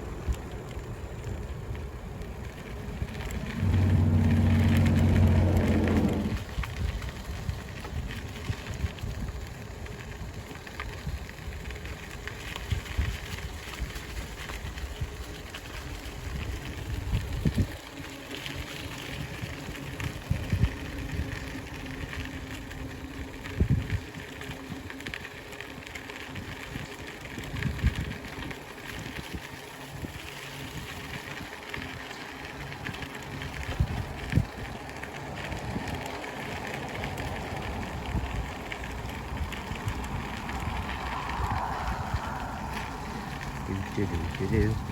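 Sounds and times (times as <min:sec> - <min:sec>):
wind buffeting microphone: 0:00.0 - 0:11.3, 0:12.6 - 0:25.4, 0:26.3 - 0:44.9
bicycle tyres rolling on trail: 0:00.0 - 0:44.9.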